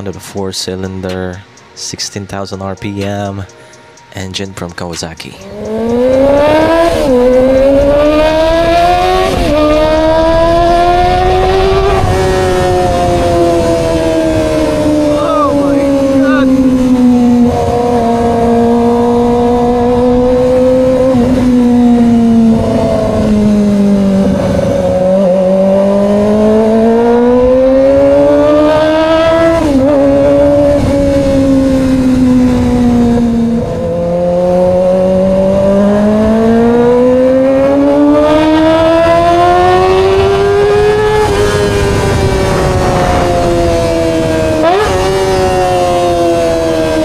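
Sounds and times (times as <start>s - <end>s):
motorcycle engine revving: 5.4s - 47.0s.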